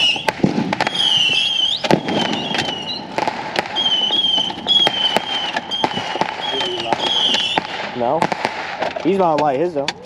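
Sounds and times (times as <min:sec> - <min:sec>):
fireworks bangs and pops: 0:00.0 - 0:10.0
fireworks whistling: 0:00.0 - 0:10.0.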